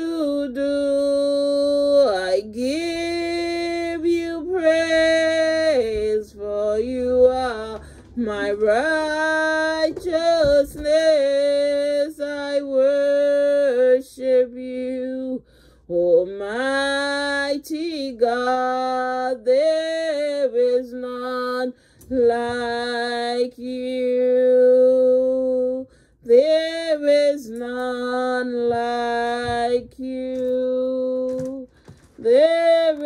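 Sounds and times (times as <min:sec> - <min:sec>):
woman singing: 0:00.0 - 0:33.0.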